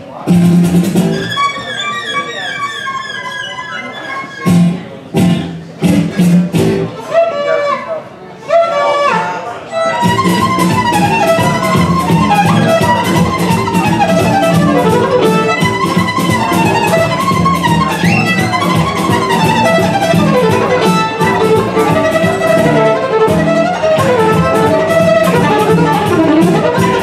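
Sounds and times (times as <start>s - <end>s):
plucked guitar accompaniment: 0.0s - 27.0s
fast violin melody: 0.8s - 5.0s, 8.5s - 27.0s.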